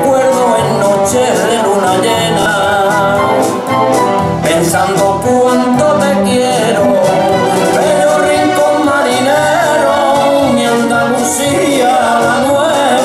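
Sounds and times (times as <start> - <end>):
instrumental backing with steady beat: 0.0 - 13.0
male voices singing: 0.0 - 13.0.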